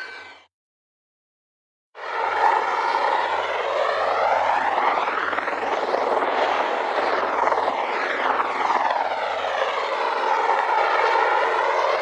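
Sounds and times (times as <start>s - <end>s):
helicopter turbines and rotors: 0.0s - 0.5s, 2.0s - 12.0s.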